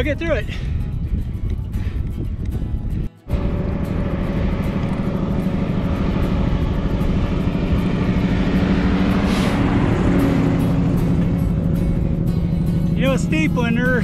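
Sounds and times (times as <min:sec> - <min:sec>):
wind buffeting microphone: 0:00.0 - 0:14.0
bike tyres humming: 0:01.0 - 0:14.0.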